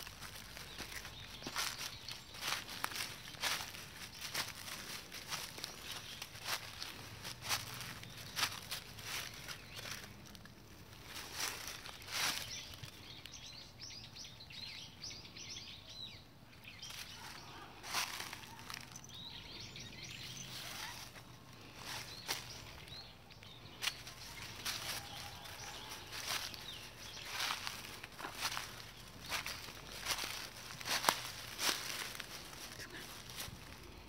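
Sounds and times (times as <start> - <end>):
dry leaves crunching underfoot: 0.0 - 13.6, 16.8 - 34.0
birds chirping: 0.0 - 34.0.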